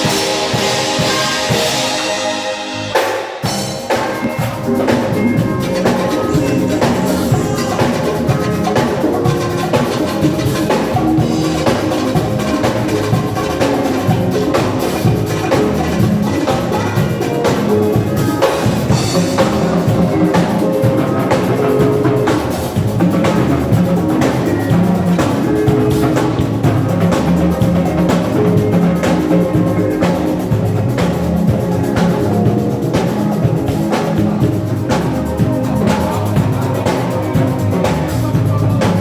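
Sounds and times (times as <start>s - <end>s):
band music: 0.0s - 39.0s
drum kit beat: 0.0s - 39.0s.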